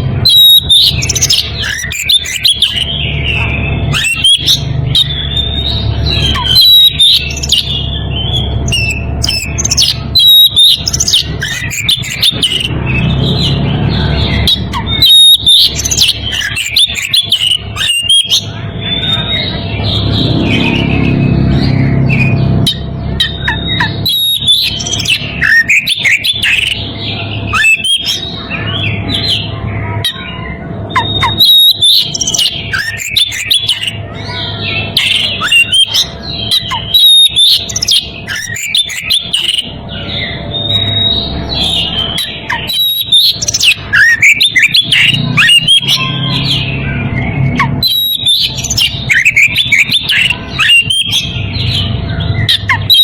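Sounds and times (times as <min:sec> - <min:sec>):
bird singing whistled phrases: 0:00.2 - 0:26.8, 0:27.5 - 0:34.4, 0:35.0 - 0:53.0.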